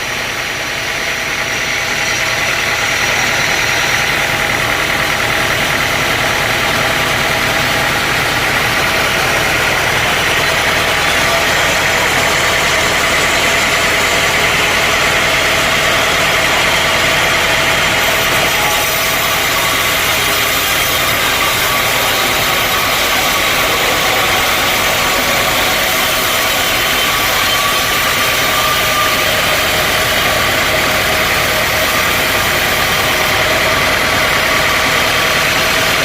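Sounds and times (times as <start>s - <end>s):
high steady whine: 0.0s - 36.0s
sawmill machinery drone: 0.0s - 36.0s.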